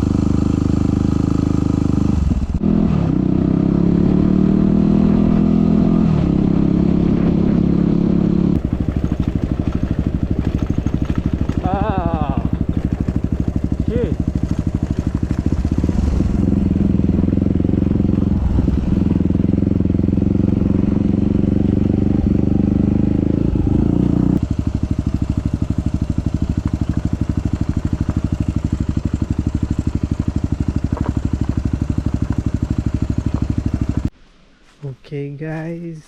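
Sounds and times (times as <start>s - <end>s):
motorcycle engine running: 0.0s - 34.1s.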